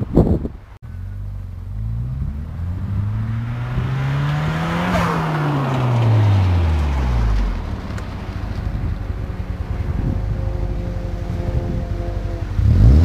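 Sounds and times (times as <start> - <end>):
car engine driving past: 0.9 - 13.0.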